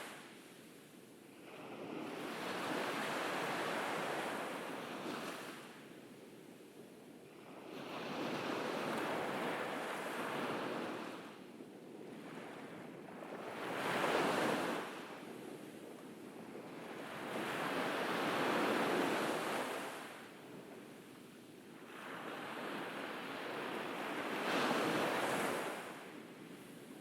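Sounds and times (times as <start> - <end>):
ocean waves breaking on beach: 1.3 - 6.0, 7.4 - 21.1, 21.7 - 27.0.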